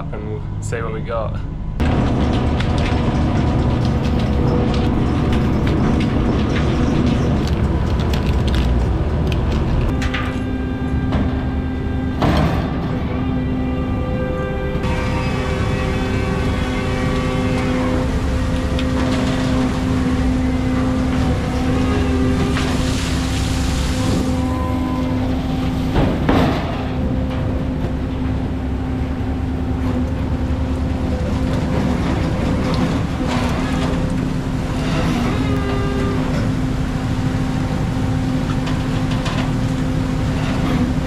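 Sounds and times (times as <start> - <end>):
boat engine droning: 0.0 - 41.0.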